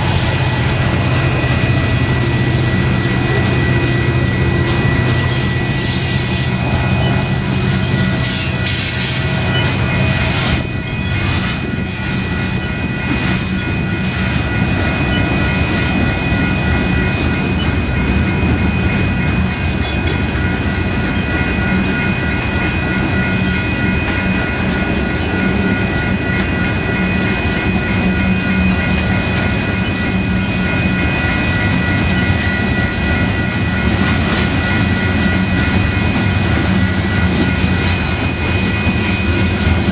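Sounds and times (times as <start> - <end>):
freight train wheels rumbling: 0.0 - 39.9
steady high-pitched tones: 0.0 - 39.9.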